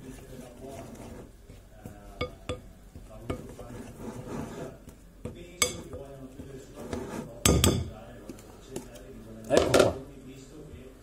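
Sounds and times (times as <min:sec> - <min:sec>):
spoon stirring batter in bowl: 0:00.0 - 0:09.6.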